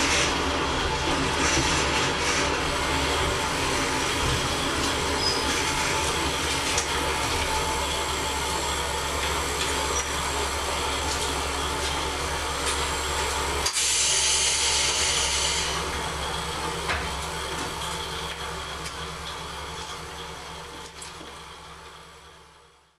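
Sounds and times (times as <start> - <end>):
diesel engine droning: 0.0 - 22.7
mechanical hum: 0.0 - 22.9.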